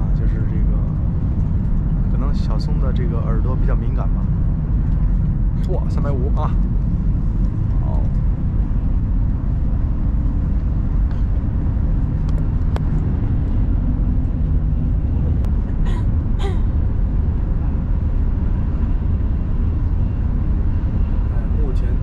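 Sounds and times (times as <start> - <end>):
train cabin low rumble: 0.0 - 22.0.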